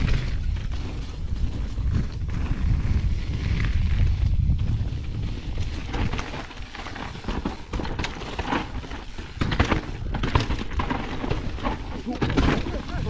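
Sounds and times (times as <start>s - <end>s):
bike rattling and knocking: 0.0s - 13.0s
tyres on loose gravel: 0.0s - 13.0s
wind rumbling on microphone: 0.0s - 13.0s.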